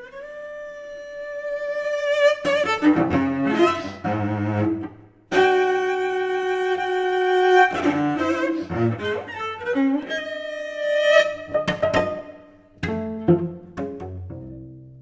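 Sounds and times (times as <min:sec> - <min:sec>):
cello bowed in jagged notes: 0:00.0 - 0:15.0.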